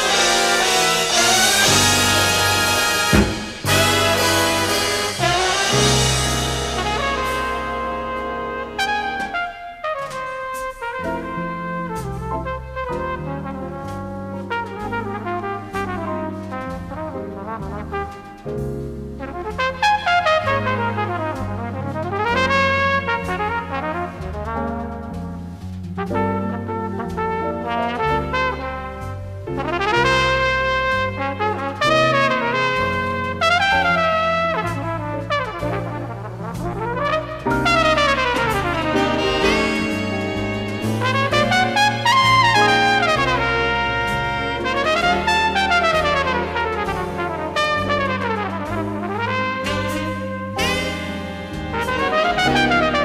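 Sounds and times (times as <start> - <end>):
big band accompaniment: 0.0 - 53.0
flugelhorn jazz ballad melody: 0.0 - 53.0.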